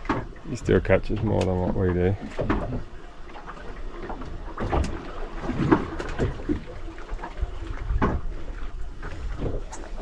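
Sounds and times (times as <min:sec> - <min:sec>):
water slapping against boat hull: 0:00.0 - 0:10.0.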